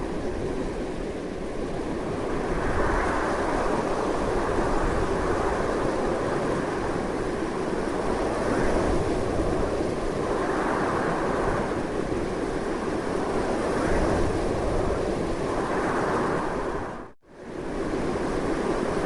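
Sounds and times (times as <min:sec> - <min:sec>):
strong gusty wind: 0:00.0 - 0:19.0.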